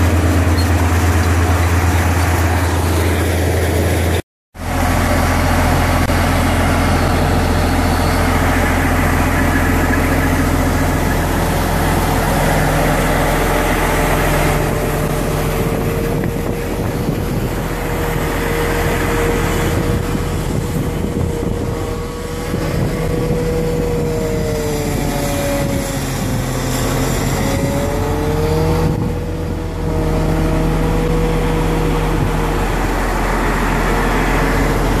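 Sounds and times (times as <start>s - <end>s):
diesel engine running: 0.0s - 35.0s
steady whine: 0.0s - 35.0s.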